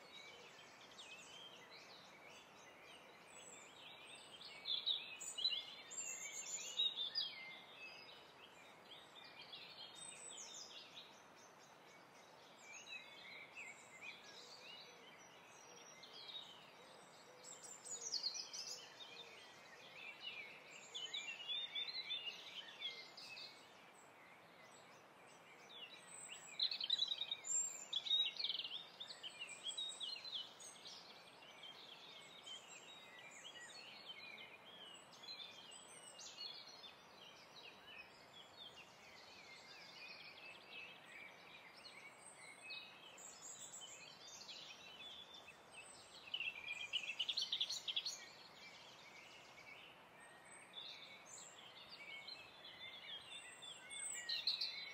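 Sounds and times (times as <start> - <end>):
faint steady hiss: 0.0 - 54.9
birds chirping and singing: 0.1 - 54.9.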